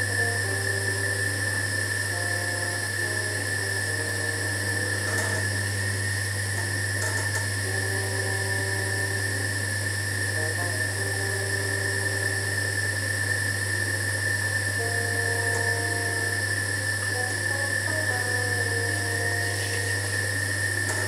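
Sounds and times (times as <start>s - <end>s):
melody of held notes: 0.0s - 21.0s
pottery wheel motor humming: 0.0s - 21.0s.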